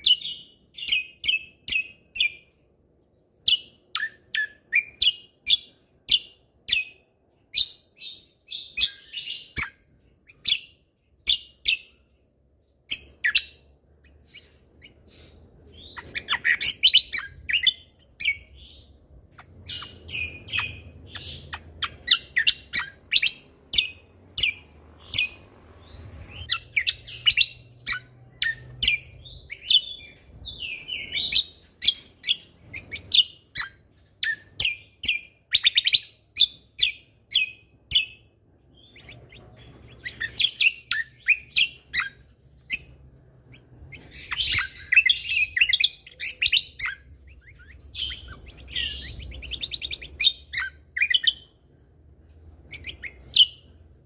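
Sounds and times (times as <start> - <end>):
bird chirping and whistling: 0.0 - 2.5, 3.3 - 12.0, 12.9 - 38.2, 38.8 - 51.5, 52.7 - 53.7.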